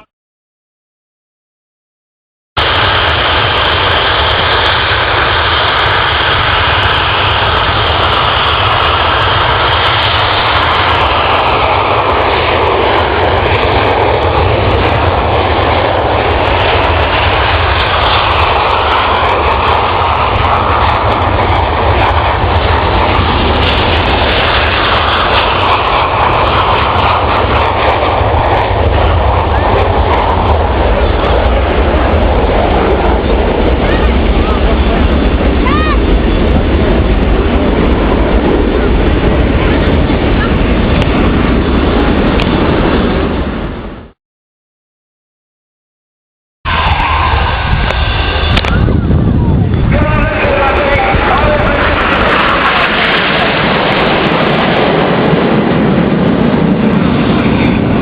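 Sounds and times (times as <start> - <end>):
aircraft engine noise: 2.6 - 44.2, 46.7 - 58.0.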